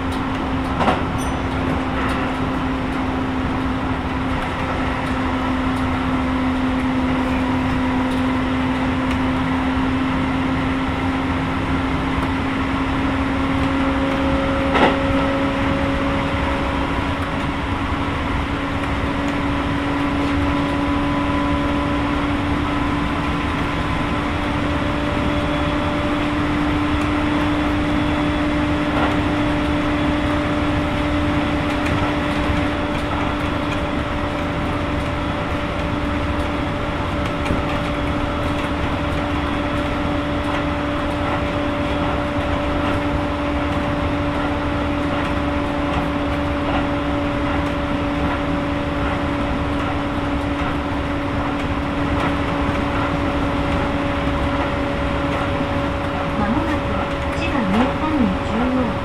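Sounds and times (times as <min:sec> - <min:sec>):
electric train traction whine: 0:00.0 - 0:59.0
wheels rumbling on rail: 0:00.0 - 0:59.0.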